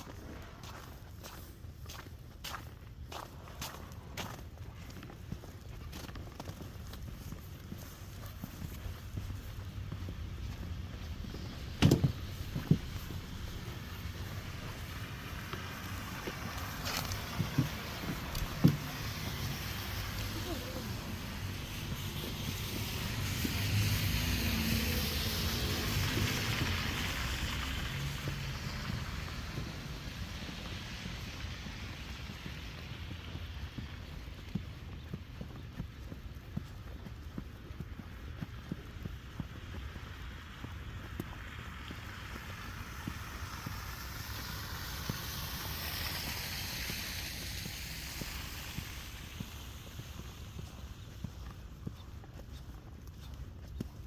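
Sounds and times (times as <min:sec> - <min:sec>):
footsteps in snow: 0:00.0 - 0:54.0
vehicle tyres hissing on slush: 0:00.0 - 0:54.0.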